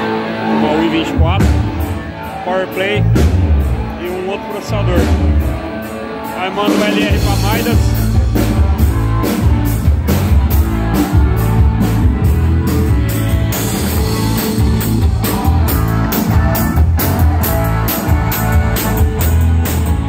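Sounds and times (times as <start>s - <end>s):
live rock band: 0.0s - 20.0s.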